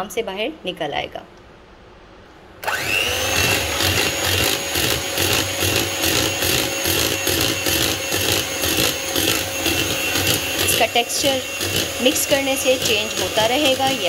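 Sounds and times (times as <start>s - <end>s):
electric hand mixer whining: 2.6s - 14.0s
beaters churning batter: 2.7s - 14.0s.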